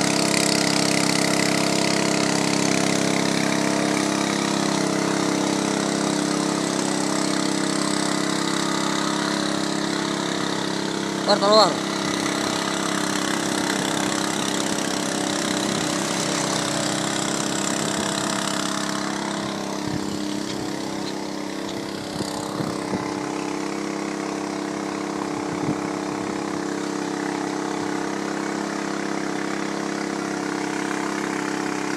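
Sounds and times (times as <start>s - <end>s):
pump engine running: 0.0s - 31.9s.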